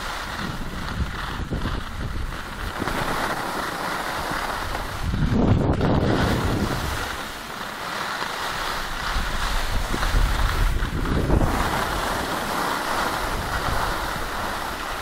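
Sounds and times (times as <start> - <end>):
wind buffeting microphone: 0.0 - 7.4, 8.5 - 15.0
skis scraping over snow: 0.0 - 15.0.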